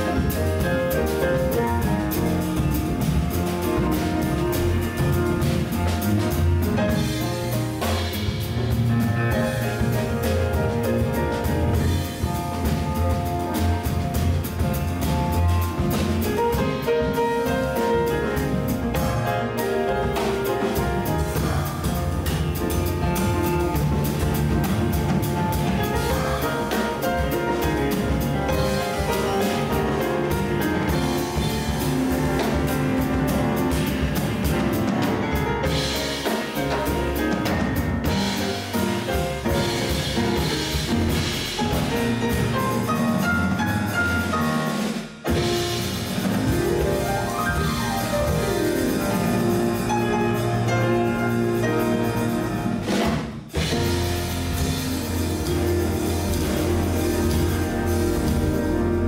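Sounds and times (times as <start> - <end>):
double bass: 0.0 - 59.0
drum kit with cymbals: 0.0 - 59.0
grand piano: 0.0 - 59.0.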